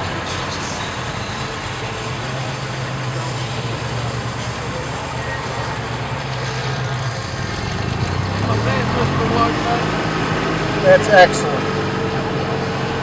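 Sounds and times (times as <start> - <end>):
car engine idling: 0.0 - 13.0
outdoor background noise: 0.0 - 13.0.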